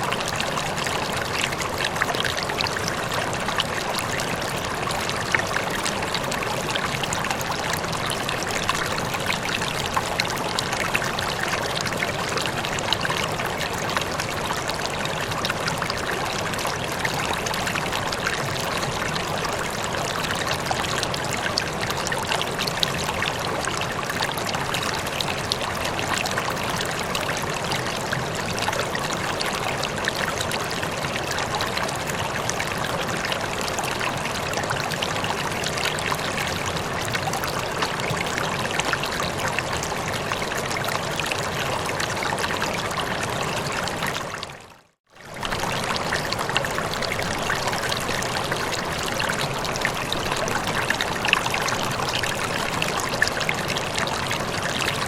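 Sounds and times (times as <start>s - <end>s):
running water flowing: 0.0s - 55.0s.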